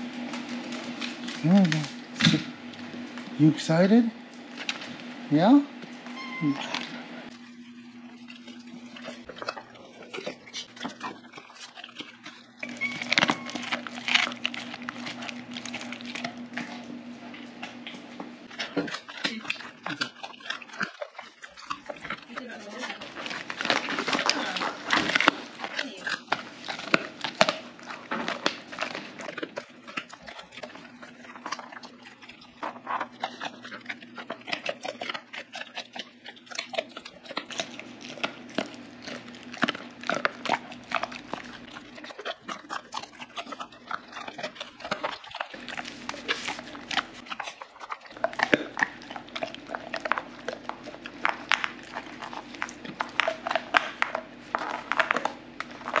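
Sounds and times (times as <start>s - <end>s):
dog chewing frozen bone: 0.0s - 56.0s.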